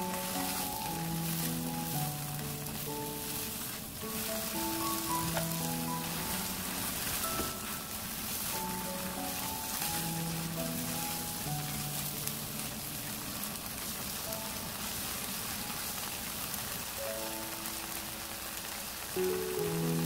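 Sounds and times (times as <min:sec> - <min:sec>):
light background music: 0:00.0 - 0:16.2, 0:17.0 - 0:20.0
food sizzling in oil: 0:00.0 - 0:20.0.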